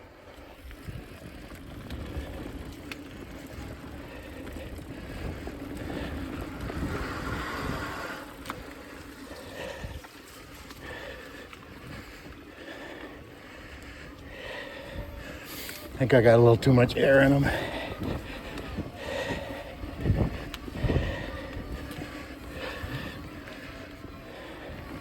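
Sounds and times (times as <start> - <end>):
bike tyres on dirt trail: 0.0 - 25.0
wind rumbling on microphone: 0.0 - 25.0.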